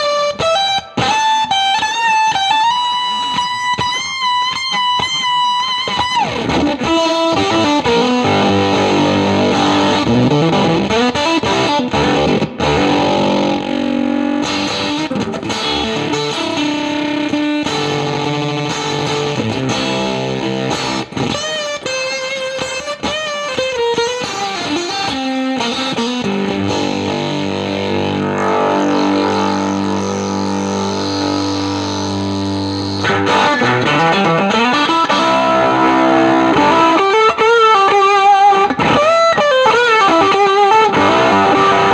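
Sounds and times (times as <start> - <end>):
distorted electric guitar: 0.0 - 41.9.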